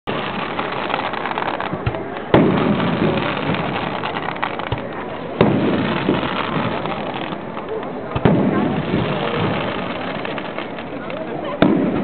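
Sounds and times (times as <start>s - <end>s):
small firework crackles: 0.0s - 12.0s
firework booms: 0.1s - 12.0s.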